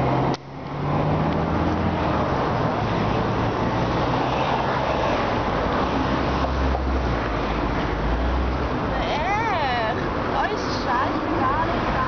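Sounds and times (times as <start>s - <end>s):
tyre and road noise: 0.0s - 12.0s
vehicle engine hum: 0.0s - 12.0s.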